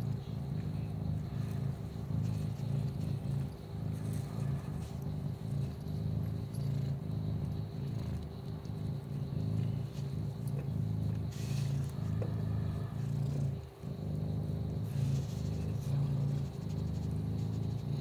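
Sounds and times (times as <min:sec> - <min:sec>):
kitten purring: 0:00.0 - 0:18.0.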